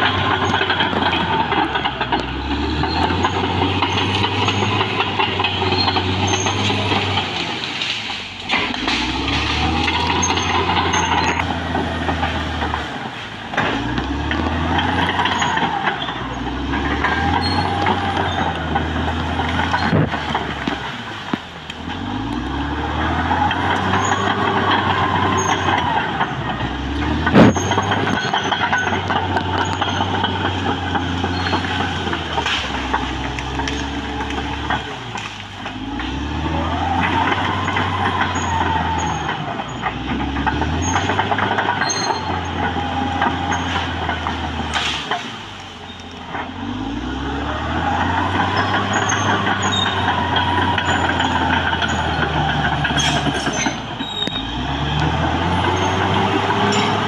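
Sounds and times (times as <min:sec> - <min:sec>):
sharp crack: 0:00.0 - 0:46.6
bulldozer diesel engine working: 0:00.0 - 0:57.0.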